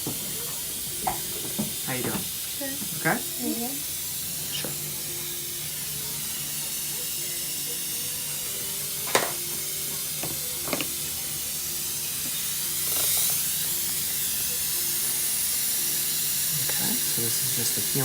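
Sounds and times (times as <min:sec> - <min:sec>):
dental suction hiss: 0:00.0 - 0:18.0.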